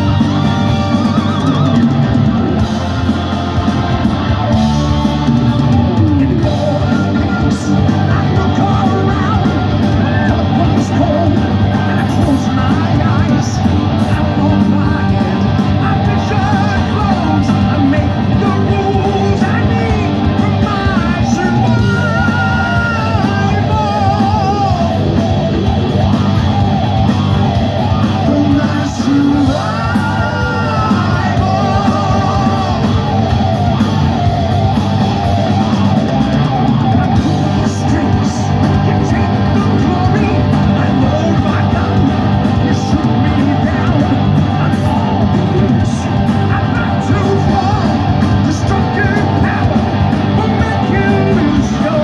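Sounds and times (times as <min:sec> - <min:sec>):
lead singer: 0:00.0 - 0:52.0
rock band playing live: 0:00.0 - 0:52.0.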